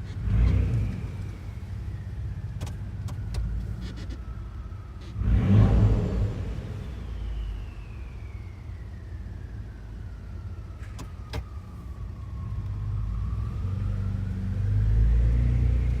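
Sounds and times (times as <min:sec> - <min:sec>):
exhaust rumble: 0:00.0 - 0:16.0.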